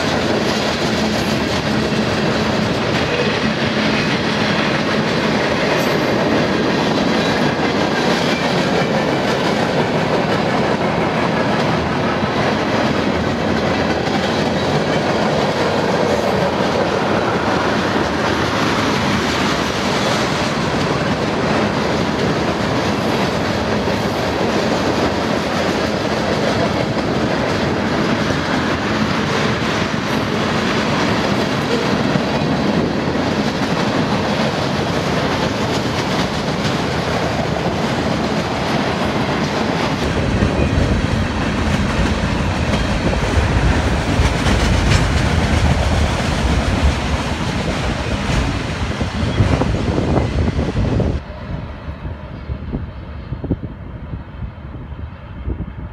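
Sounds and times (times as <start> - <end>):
freight train cars rolling on rails: 0.0 - 55.9.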